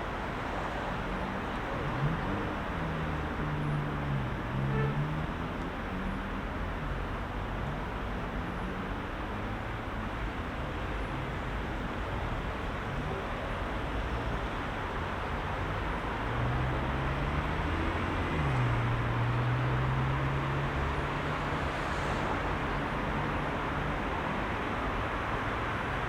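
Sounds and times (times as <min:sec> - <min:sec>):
heavy road traffic: 0:00.0 - 0:26.0.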